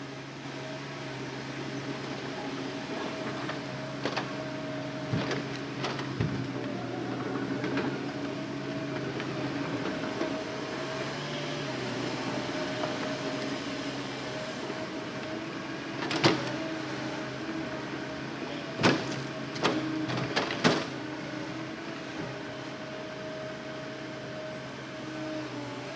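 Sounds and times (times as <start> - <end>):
excavator engine hum: 0.0 - 25.9.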